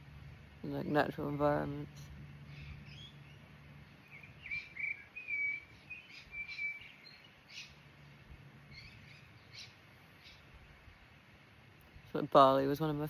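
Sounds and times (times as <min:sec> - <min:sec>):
faint outdoor background noise: 0:00.0 - 0:13.0
small birds chirping: 0:00.6 - 0:13.0.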